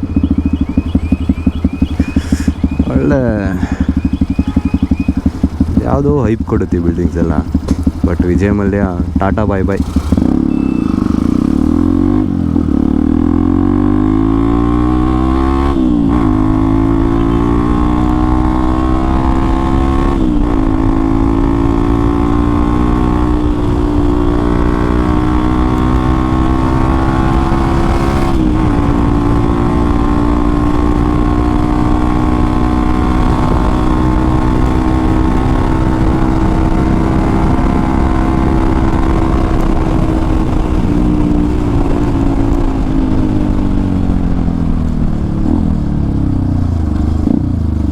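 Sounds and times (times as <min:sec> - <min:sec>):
gear shifts: 0:00.0 - 0:12.8, 0:13.4 - 0:47.9
motorcycle engine accelerating: 0:00.0 - 0:47.9.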